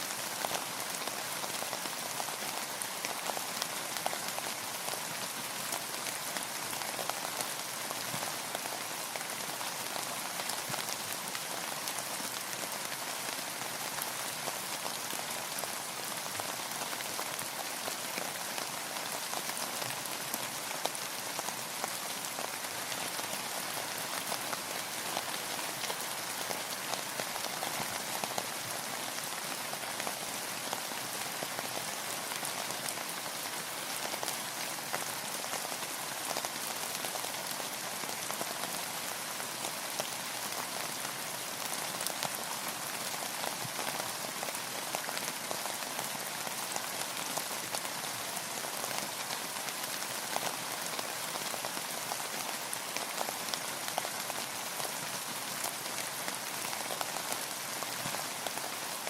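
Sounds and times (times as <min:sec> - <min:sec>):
rain pattering: 0:00.1 - 0:59.0.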